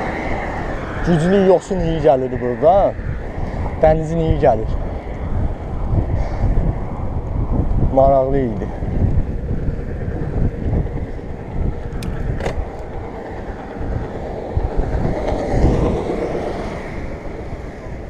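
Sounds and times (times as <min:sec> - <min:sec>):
road noise: 0:00.0 - 0:18.0
wind rumbling on microphone: 0:00.0 - 0:18.0.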